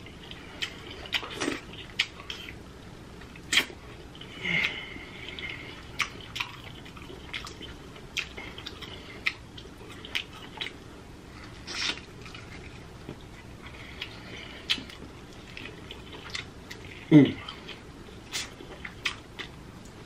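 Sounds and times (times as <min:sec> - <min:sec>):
wet eating sounds: 0:00.0 - 0:02.6, 0:03.2 - 0:20.0.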